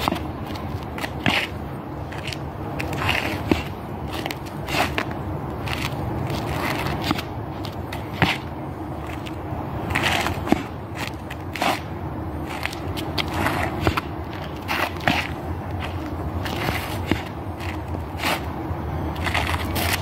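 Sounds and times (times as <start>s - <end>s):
shoes stamping on wet asphalt: 0.0s - 18.5s.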